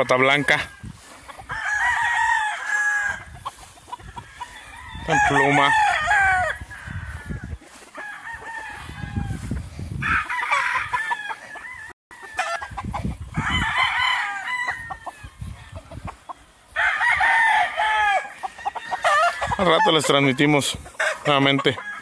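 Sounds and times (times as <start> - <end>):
roosters crowing: 0.0 - 22.0.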